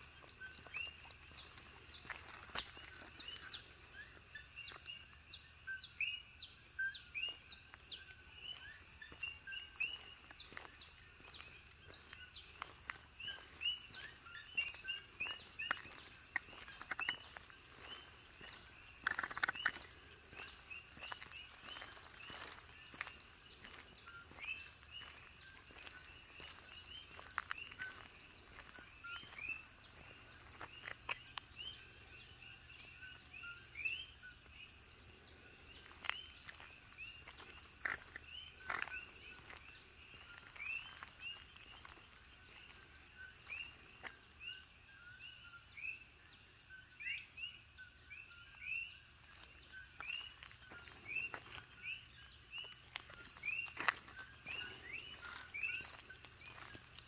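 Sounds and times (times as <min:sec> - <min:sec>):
frogs calling: 0:00.0 - 0:57.0
high-pitched insect drone: 0:06.6 - 0:57.0.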